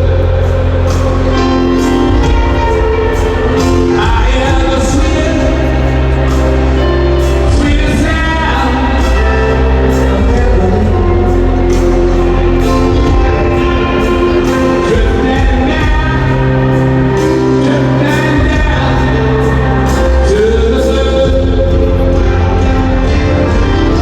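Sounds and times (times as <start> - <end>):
live rock band playing: 0.0 - 24.0
steady bass: 0.0 - 24.0
sung vocals holding long notes: 0.0 - 24.0.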